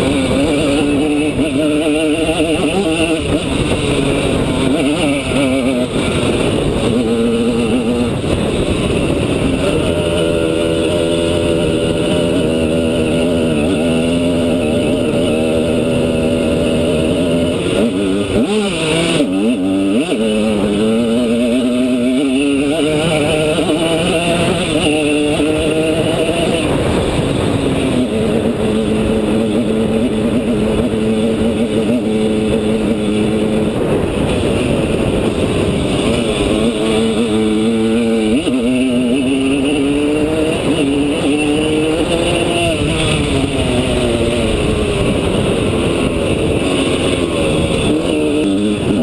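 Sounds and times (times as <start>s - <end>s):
two-stroke engine revving: 0.0s - 49.0s.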